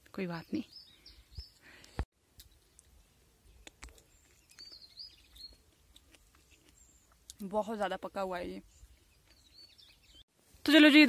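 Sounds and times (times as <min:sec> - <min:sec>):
small bird chirping: 0:00.2 - 0:10.3.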